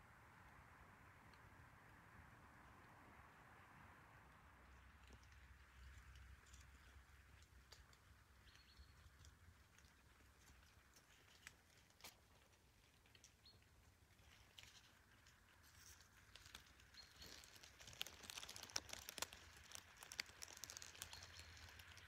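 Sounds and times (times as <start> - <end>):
soft ticks and crackles: 0.1 - 22.0.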